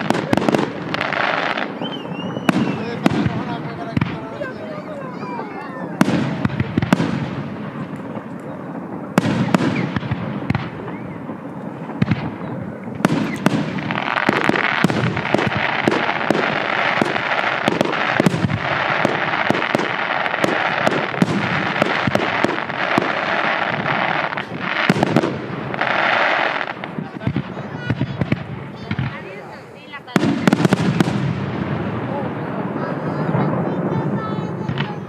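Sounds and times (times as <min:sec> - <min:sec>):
fireworks bangs and pops: 0:00.0 - 0:35.0
fireworks crackling hiss: 0:00.0 - 0:35.0.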